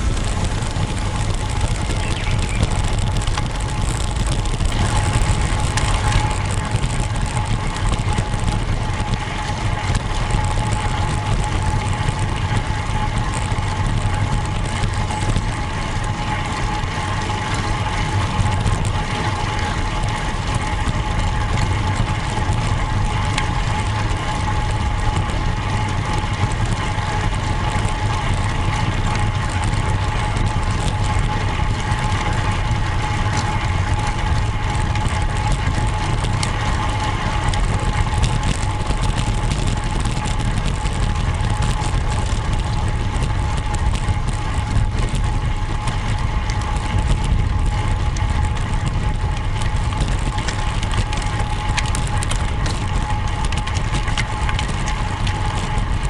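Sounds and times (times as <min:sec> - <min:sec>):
bike tyre road noise: 0:00.0 - 0:56.0
constant whine: 0:00.0 - 0:56.0
wind rumble on microphone: 0:00.0 - 0:56.0
light ticks from bike: 0:00.2 - 0:56.0.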